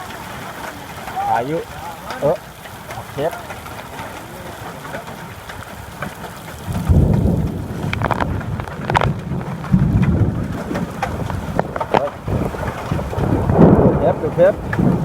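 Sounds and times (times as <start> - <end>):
rain and hail pelting: 0.0 - 15.0
sharp cracks: 0.0 - 15.0.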